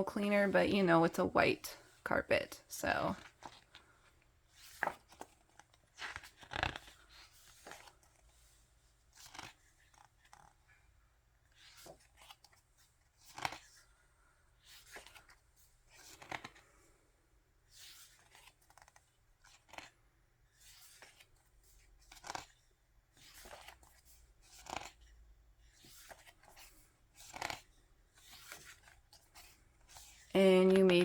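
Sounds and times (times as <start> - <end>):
pages turning: 3.2 - 10.7, 11.4 - 14.0, 14.6 - 16.9, 17.6 - 31.0.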